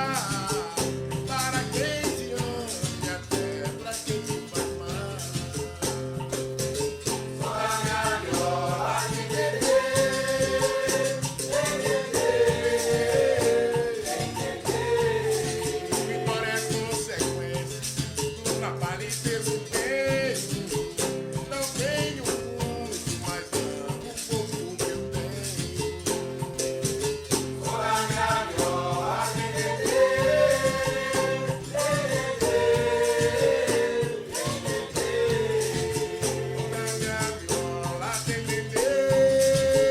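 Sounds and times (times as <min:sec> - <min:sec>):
shaker rattle: 0:00.0 - 0:39.9.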